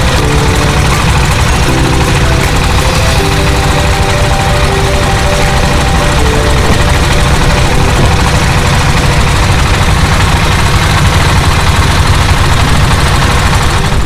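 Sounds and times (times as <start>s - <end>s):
boat engine rumble: 0.0s - 14.0s.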